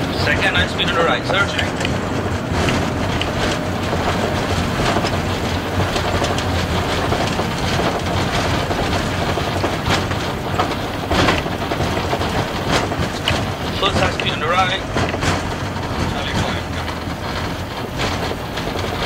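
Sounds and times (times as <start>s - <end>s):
airliner rolling rumble: 0.0s - 19.0s
wheels knocking and clattering: 0.0s - 19.0s.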